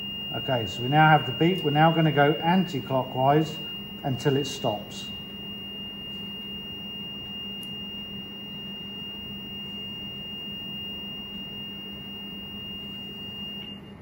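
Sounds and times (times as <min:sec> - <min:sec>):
steady high beep tone: 0:00.0 - 0:13.8.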